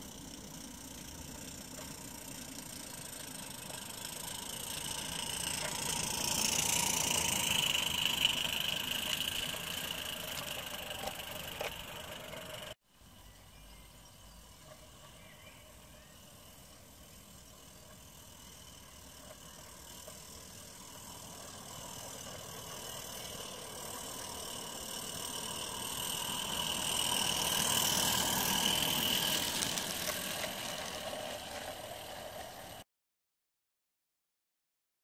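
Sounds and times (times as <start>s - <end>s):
steam locomotive running: 0.0s - 13.2s, 13.8s - 32.8s.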